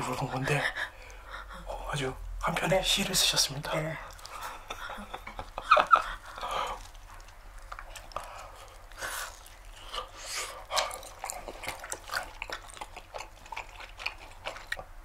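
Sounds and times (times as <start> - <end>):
people chewing sticky food: 0.0 - 15.0.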